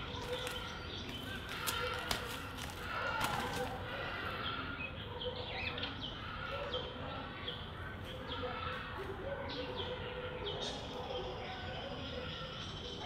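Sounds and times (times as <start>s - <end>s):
background birdsong: 0.0s - 13.0s.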